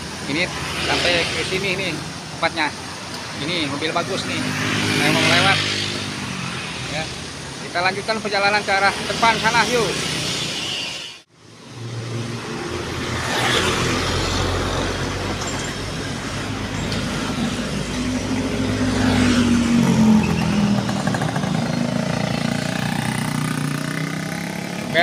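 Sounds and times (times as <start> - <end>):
cars passing: 0.0 - 25.0
motorbikes passing: 0.0 - 25.0.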